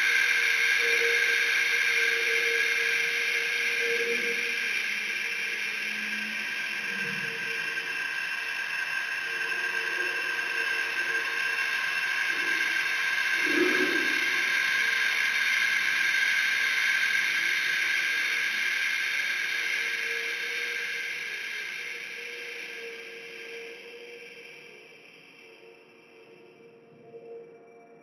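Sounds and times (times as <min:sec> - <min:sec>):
hissing drone: 0:00.0 - 0:26.8.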